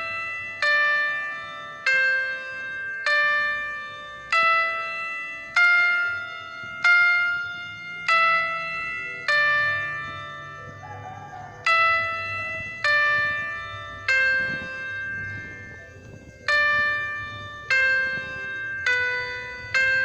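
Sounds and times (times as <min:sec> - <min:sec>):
slow bell-like notes: 0:00.0 - 0:20.0.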